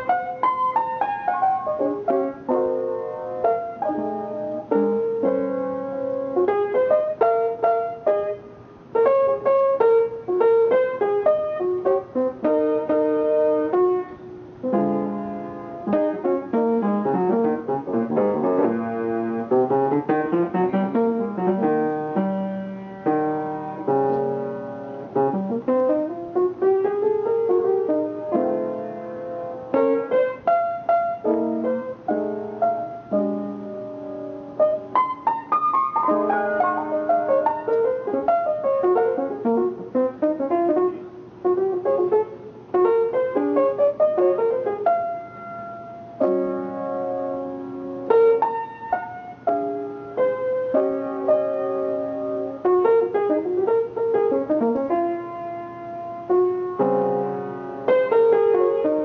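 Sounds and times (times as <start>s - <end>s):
jazz piano playing: 0.0s - 59.0s.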